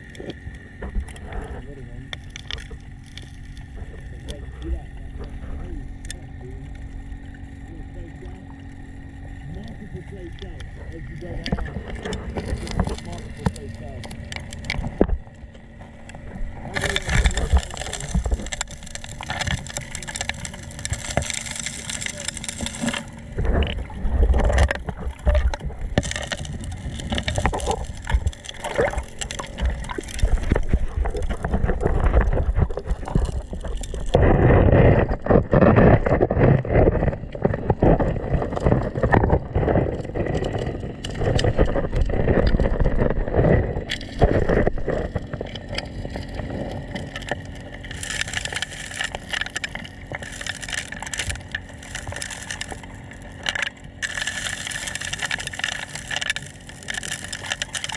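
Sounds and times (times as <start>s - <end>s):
motor hum: 0.0s - 57.9s
water gurgling and churning: 0.0s - 57.9s.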